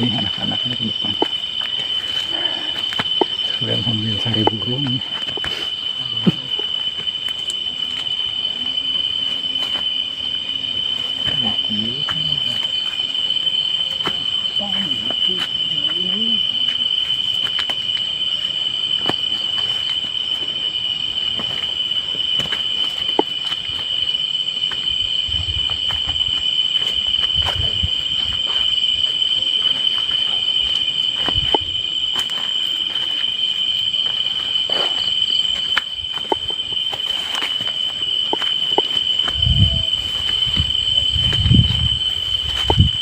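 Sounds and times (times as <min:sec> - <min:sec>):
night insects trilling: 0:00.0 - 0:43.0.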